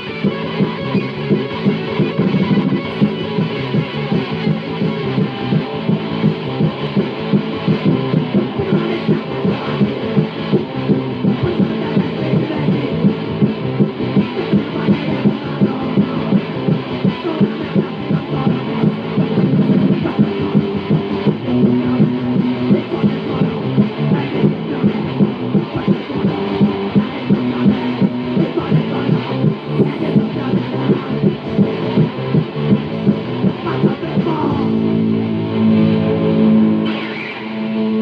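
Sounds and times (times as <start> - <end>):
distorted electric guitar chords: 0.0 - 38.0
drums: 0.0 - 38.0.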